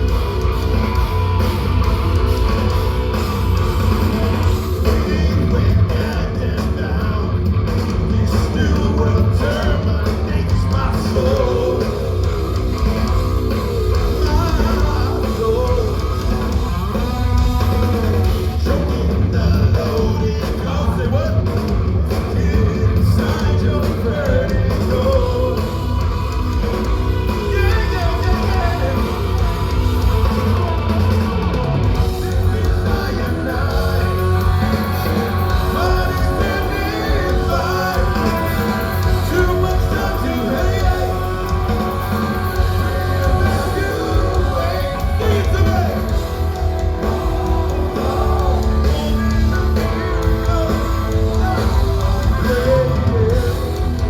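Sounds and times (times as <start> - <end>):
distorted electric guitar: 0.0 - 54.0
live metal band playing: 0.0 - 54.0
person singing: 4.3 - 54.0.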